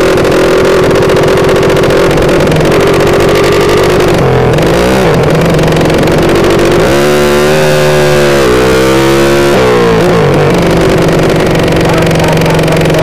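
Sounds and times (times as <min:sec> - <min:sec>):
motorcycle engine running hard: 0:00.0 - 0:13.0
second motorcycle engine: 0:00.0 - 0:13.0.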